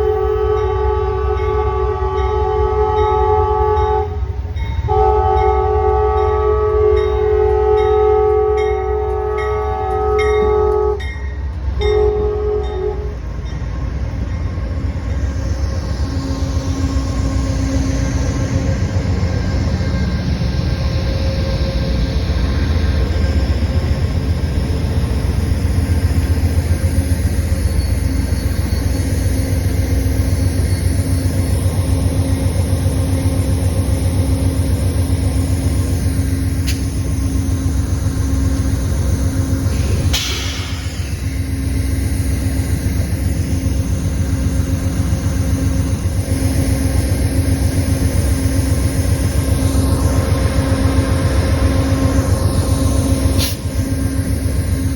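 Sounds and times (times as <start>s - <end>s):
train rumbling on rails: 0.0s - 54.9s.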